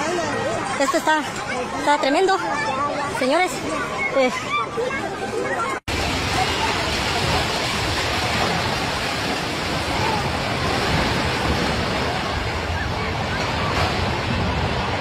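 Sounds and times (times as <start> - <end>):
crowd voices: 0.0 - 15.0.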